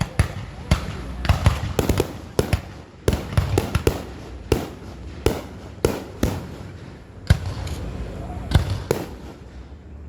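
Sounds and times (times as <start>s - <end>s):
sharp bangs and cracks: 0.0s - 7.9s, 8.5s - 9.8s.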